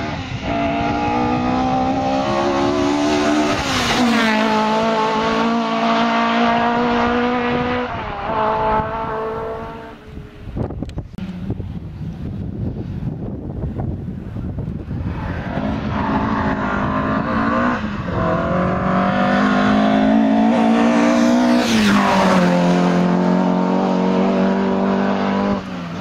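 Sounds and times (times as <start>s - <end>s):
rally car engine passing: 0.0s - 10.5s, 14.9s - 26.0s.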